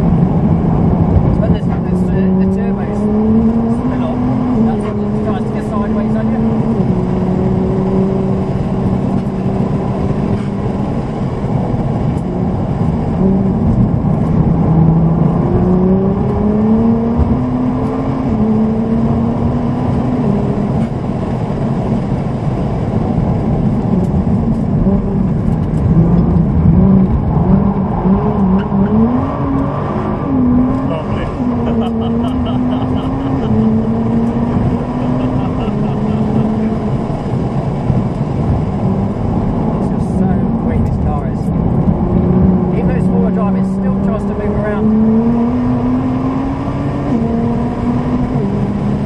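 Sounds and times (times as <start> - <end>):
car engine accelerating: 0.0 - 49.0
road noise: 0.0 - 49.0.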